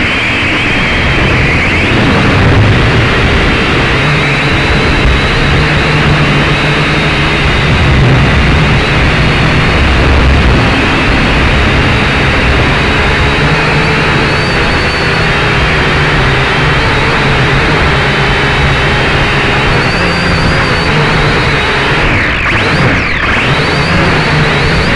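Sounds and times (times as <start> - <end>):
drone propellers whirring: 0.0 - 24.9.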